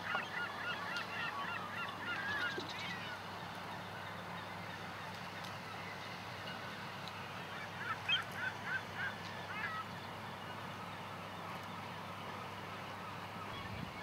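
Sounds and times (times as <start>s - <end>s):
bird calls: 0.0s - 6.6s, 7.2s - 14.0s.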